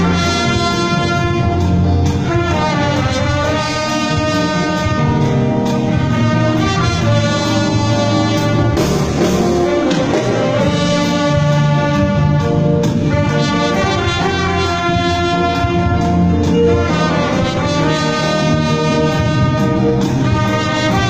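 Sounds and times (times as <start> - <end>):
brass sustained notes: 0.0 - 21.0
orchestra playing a hymn tune: 0.0 - 21.0.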